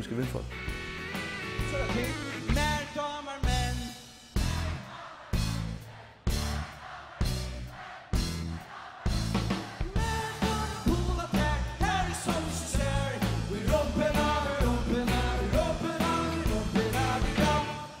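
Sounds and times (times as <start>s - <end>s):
rock-pop song with vocals: 0.0s - 18.0s.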